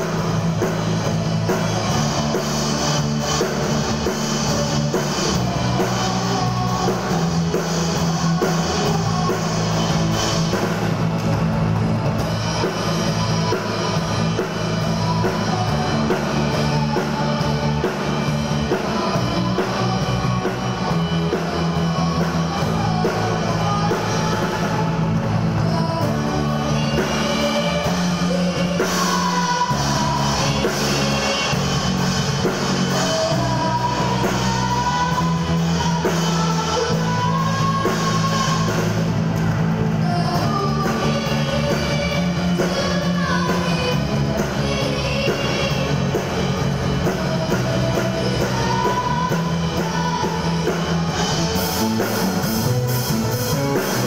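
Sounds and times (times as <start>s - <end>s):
girl singing: 0.0s - 10.9s, 12.2s - 39.2s, 39.8s - 52.5s
drum kit beat: 0.0s - 54.0s
rock band playing: 0.0s - 54.0s.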